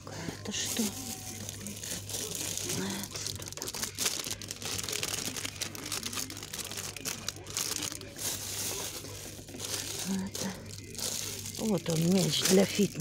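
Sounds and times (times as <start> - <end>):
plastic wrapping crinkling: 0.2 - 13.0.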